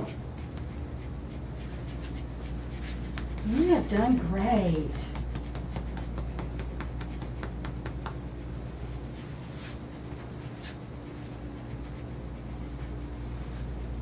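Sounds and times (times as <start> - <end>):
comb scratching through dog fur: 0.0 - 14.0
steady low hum: 0.0 - 14.0.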